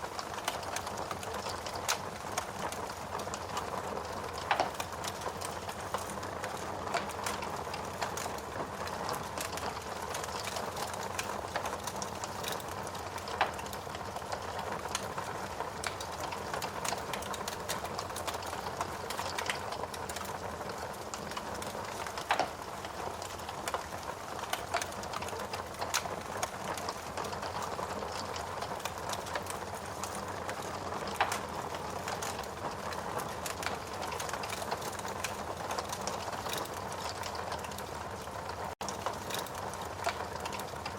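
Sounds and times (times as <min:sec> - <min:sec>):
logs crackling in fireplace: 0:00.0 - 0:40.9
fire pops: 0:00.2 - 0:37.8, 0:38.8 - 0:40.7.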